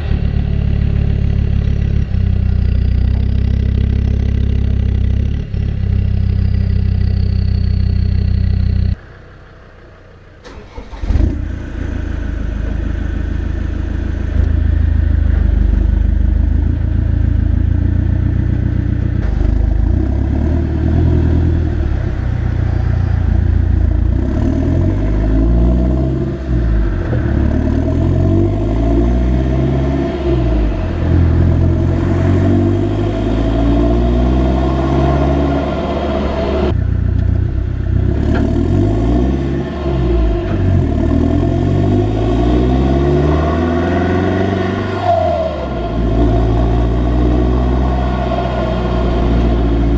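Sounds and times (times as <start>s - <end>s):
diesel engine running and revving: 0.0s - 49.9s.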